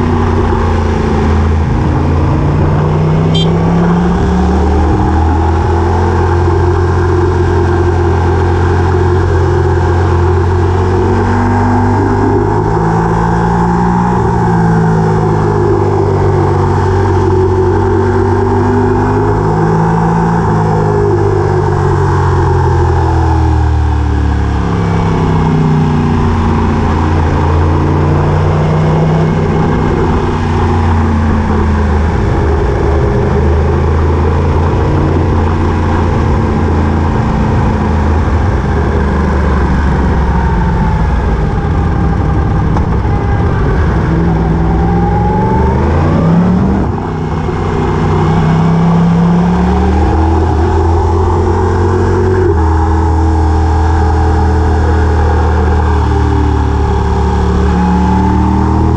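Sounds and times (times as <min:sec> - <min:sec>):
road or wind noise: 0:00.0 - 0:58.9
vehicle engine running: 0:00.0 - 0:58.9.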